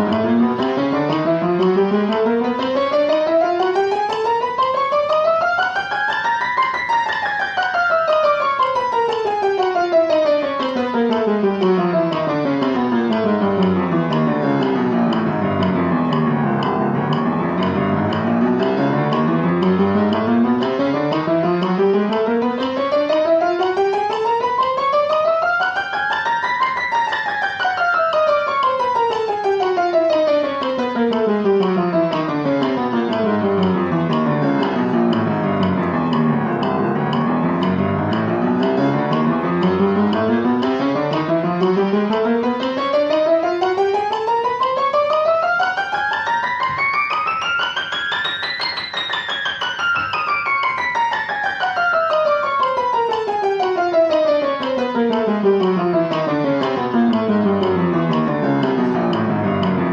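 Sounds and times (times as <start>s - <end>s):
piano playing fast scales: 0.0s - 59.9s.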